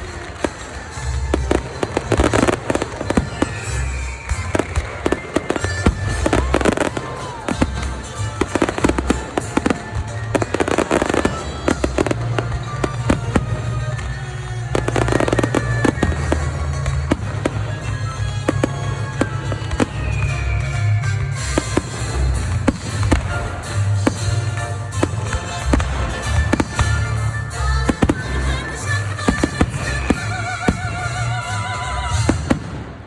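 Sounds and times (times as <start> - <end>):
fireworks bangs and crackling: 0.0 - 33.0
fireworks whistling: 0.0 - 33.0.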